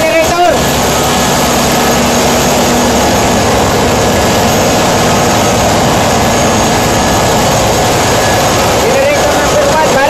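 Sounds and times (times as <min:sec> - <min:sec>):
engine room machinery din: 0:00.0 - 0:10.0.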